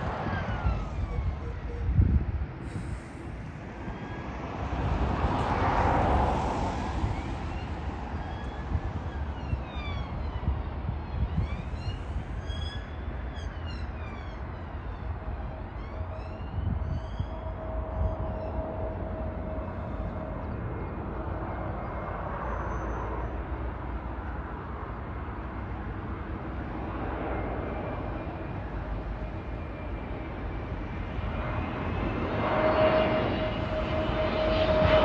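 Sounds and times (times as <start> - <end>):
jet airliner passing low: 0.0 - 35.0
wind rumble on microphone: 0.0 - 35.0.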